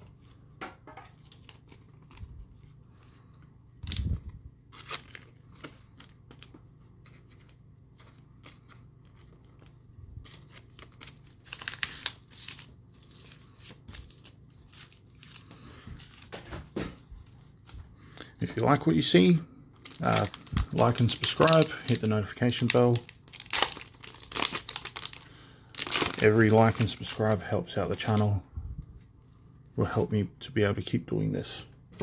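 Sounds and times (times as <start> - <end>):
cards and wrappers crinkling: 1.1 - 28.4.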